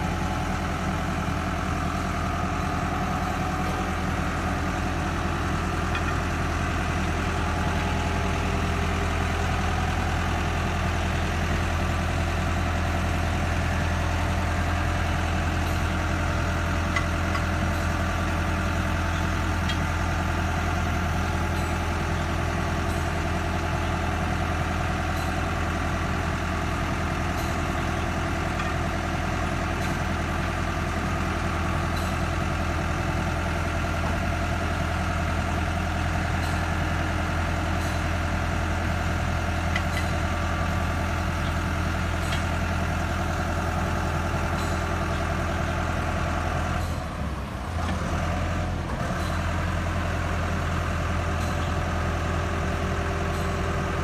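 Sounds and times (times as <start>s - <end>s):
forklift engine running near idle: 0.0s - 54.0s.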